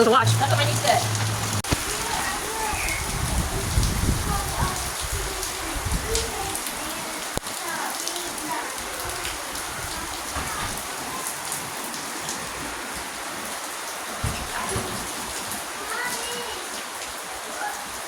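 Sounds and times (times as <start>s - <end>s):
rain pattering on surfaces: 0.0s - 18.0s.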